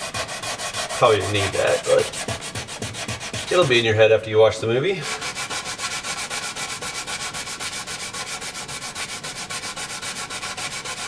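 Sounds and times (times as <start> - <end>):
sandpaper rubbing on wood: 0.0 - 11.0.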